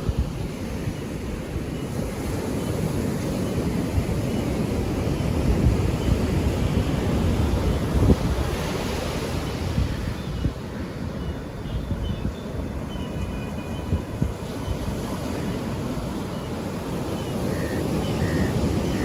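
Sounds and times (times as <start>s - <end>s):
sea waves washing onto beach: 0.0s - 11.6s, 12.4s - 19.0s
wind noise on microphone: 0.0s - 19.0s.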